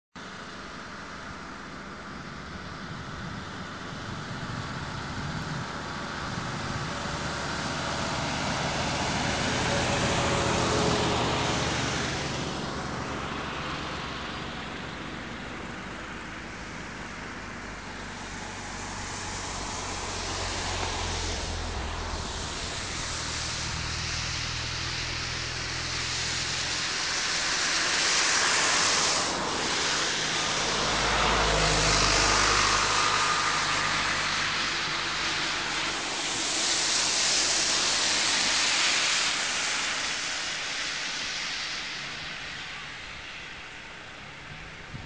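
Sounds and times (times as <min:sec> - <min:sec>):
vehicle passing on wet road: 0:00.2 - 0:45.0.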